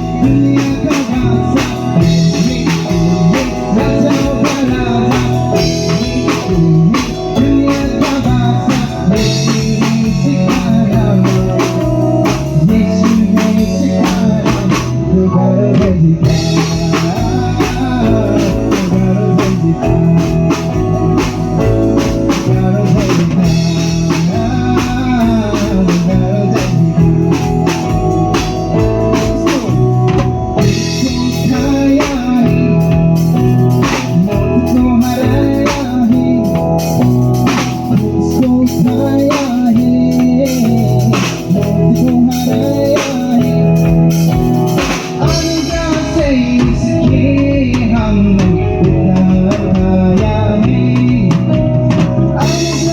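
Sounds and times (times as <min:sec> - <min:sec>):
band playing: 0:00.0 - 0:52.9
drum kit beat: 0:00.0 - 0:52.9
sustained organ chords: 0:00.0 - 0:52.9.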